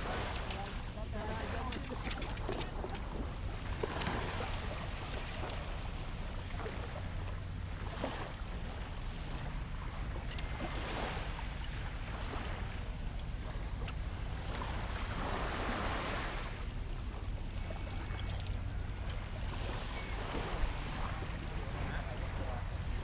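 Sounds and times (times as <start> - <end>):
sea surf washing: 0.0 - 23.0.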